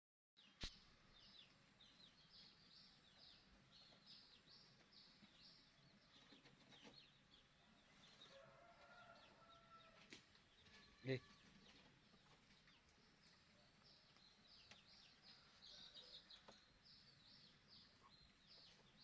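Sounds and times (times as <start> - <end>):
bird chirping: 0.4 - 19.0.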